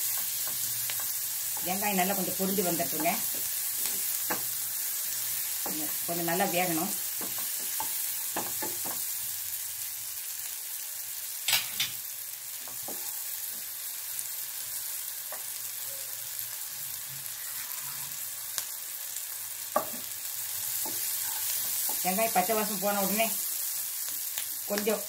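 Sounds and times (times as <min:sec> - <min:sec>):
onions sizzling in oil: 0:00.0 - 0:25.0.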